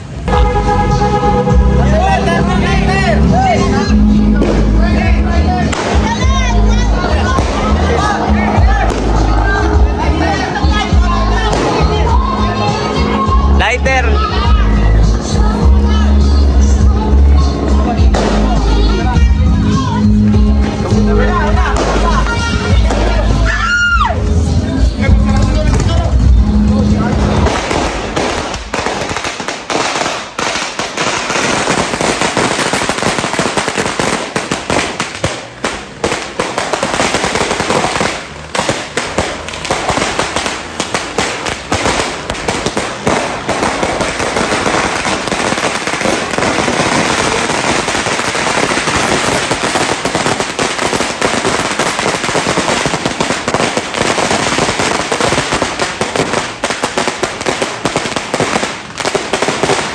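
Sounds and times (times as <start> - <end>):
firecrackers banging rapidly: 0.0 - 14.1, 17.2 - 23.5, 24.4 - 59.9.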